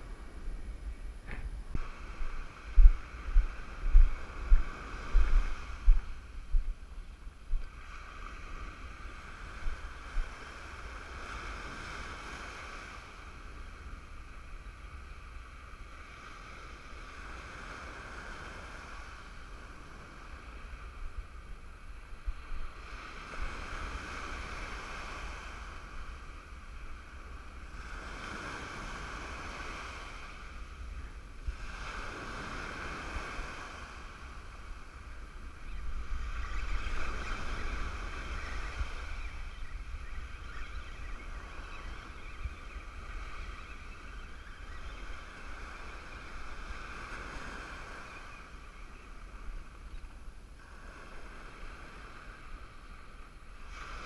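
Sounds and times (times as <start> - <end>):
ocean surf breaking on beach: 0.0 - 6.8, 7.4 - 54.0
wind gusts on microphone: 0.0 - 54.0.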